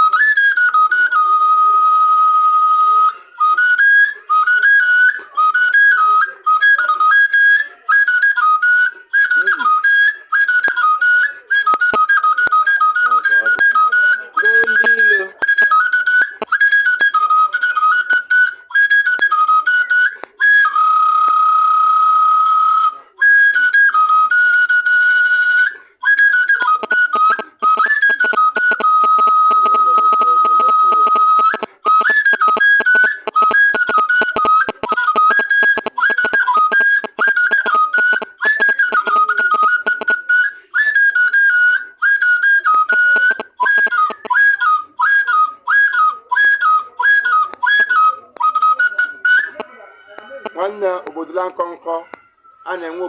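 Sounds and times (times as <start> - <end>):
wooden flute melody: 0.0 - 53.0.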